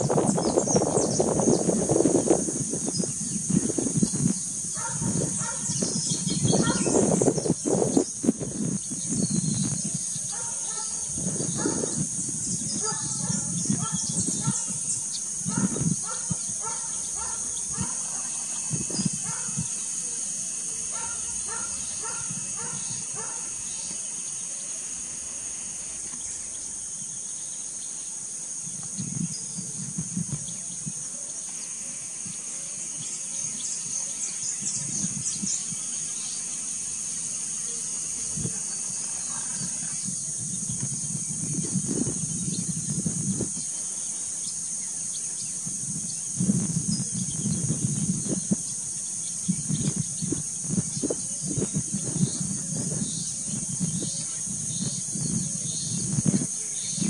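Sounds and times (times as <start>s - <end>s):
insects droning in grass: 0.0s - 57.0s.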